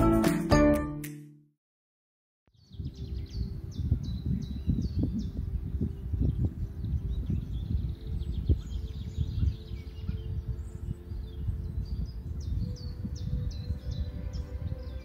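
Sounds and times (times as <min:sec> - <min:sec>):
small birds chirping: 0:02.5 - 0:15.0
wind buffeting microphone: 0:02.6 - 0:15.0.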